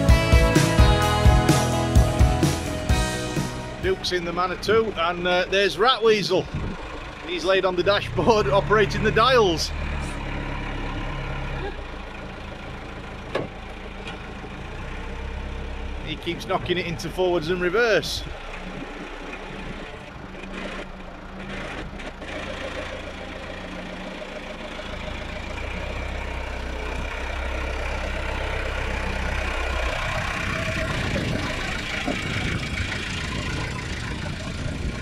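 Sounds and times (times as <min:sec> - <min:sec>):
diesel loader engine running: 0:00.0 - 0:35.0.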